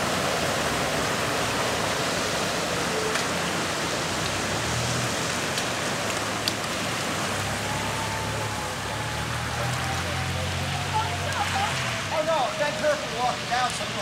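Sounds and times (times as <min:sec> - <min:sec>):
water hissing on flooded street: 0:00.0 - 0:14.0.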